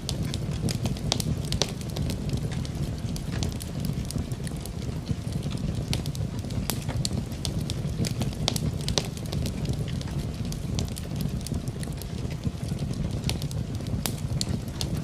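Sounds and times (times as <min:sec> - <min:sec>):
rain: 0:00.0 - 0:15.0
wood fire crackling: 0:00.0 - 0:15.0.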